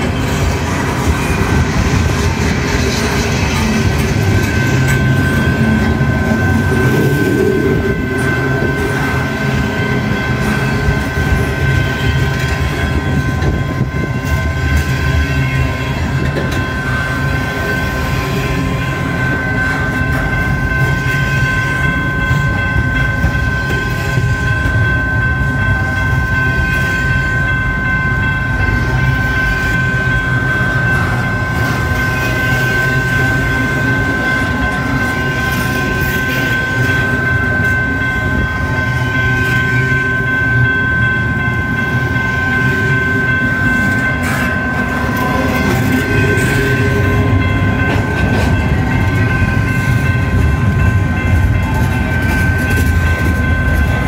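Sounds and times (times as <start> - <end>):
steady high tone: 0.0 - 54.0
train wheels rumbling on rails: 0.0 - 54.0.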